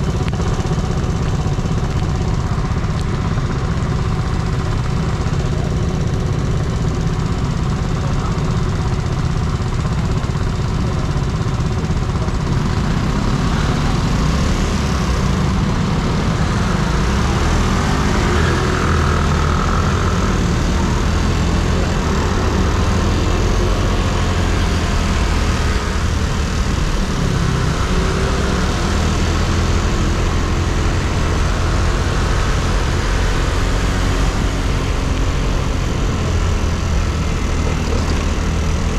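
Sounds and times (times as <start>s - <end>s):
scooter engine running: 0.0s - 38.9s
wind and road noise: 0.0s - 38.9s.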